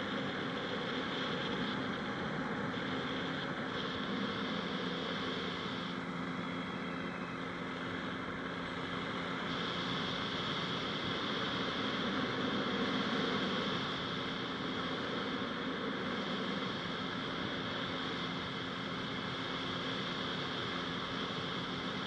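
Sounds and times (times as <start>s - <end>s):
two-stroke engine drone: 0.0s - 22.0s.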